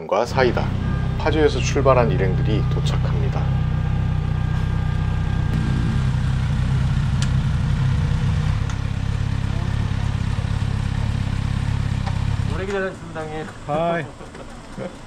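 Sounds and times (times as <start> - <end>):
motorcycle engines idling: 0.0 - 15.0.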